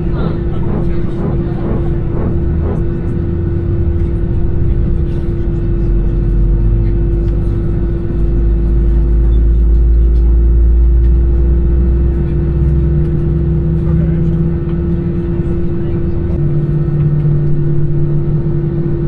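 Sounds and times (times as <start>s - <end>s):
airplane cabin hum: 0.0s - 19.0s
low engine rumble: 0.0s - 19.0s.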